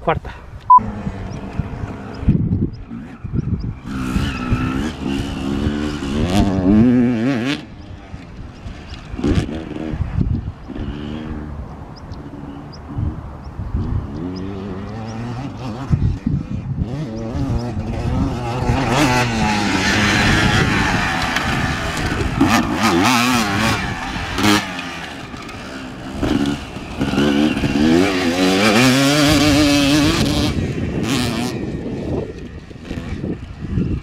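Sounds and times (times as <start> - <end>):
motocross bike engine revving: 0.8 - 34.0.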